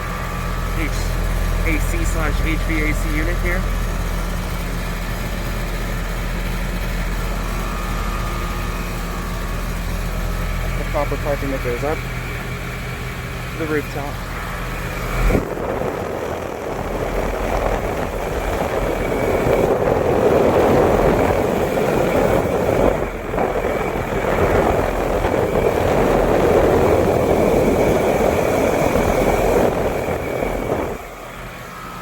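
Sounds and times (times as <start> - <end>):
air conditioner fan rushing: 0.0 - 32.0.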